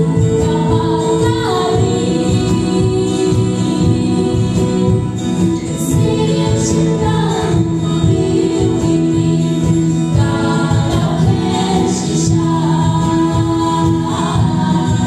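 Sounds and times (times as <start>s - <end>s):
acoustic guitar: 0.0s - 15.0s
children's choir singing: 0.0s - 15.0s.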